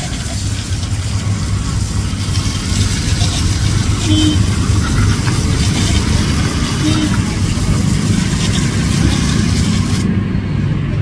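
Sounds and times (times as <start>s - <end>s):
water jet hissing on metal: 0.0s - 10.1s
pressure washer running: 0.0s - 10.2s.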